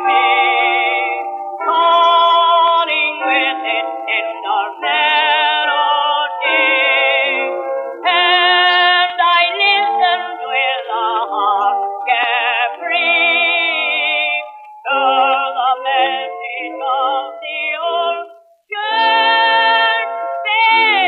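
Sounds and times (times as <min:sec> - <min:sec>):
phonograph music with vibrato: 0:00.0 - 0:21.0.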